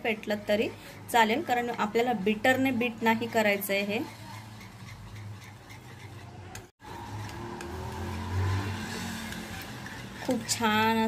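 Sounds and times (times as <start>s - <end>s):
wire whisk beating batter in a bowl: 0.0s - 11.0s.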